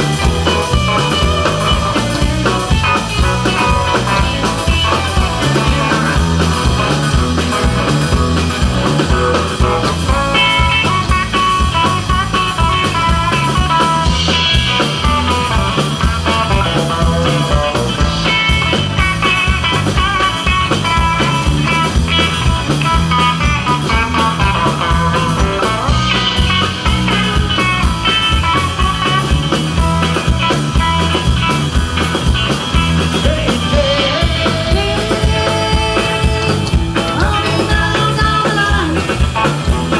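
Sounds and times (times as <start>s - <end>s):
bass guitar: 0.0s - 39.9s
electric guitars: 0.0s - 39.9s
steady drum beat: 0.0s - 39.9s.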